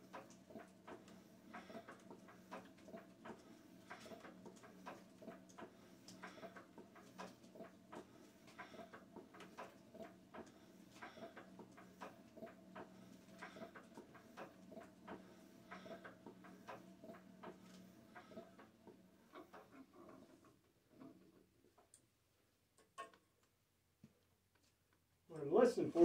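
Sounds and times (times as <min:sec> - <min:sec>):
small clicks and ticks: 0:00.0 - 0:22.1, 0:22.8 - 0:23.6.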